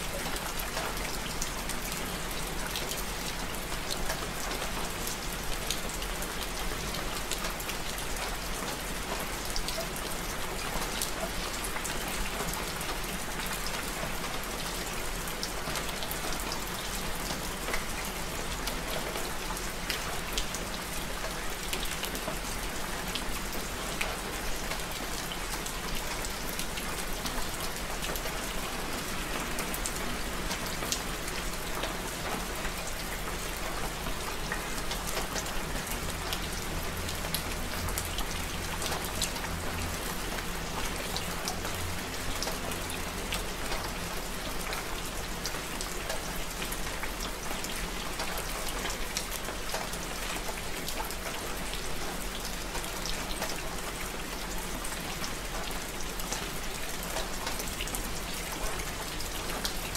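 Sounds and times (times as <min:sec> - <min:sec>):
steady rain hissing: 0:00.0 - 0:59.9
raindrops pattering on surfaces: 0:00.1 - 0:59.9.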